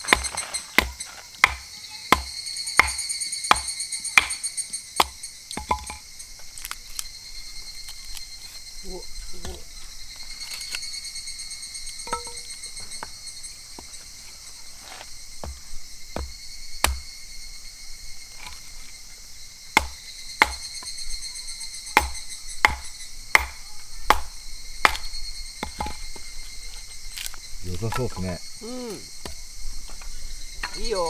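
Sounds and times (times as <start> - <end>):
hatchet splitting firewood: 0.0 - 7.2, 7.8 - 11.0, 11.8 - 14.0, 14.8 - 17.3, 18.3 - 18.8, 19.7 - 21.0, 21.9 - 28.4, 29.2 - 31.0.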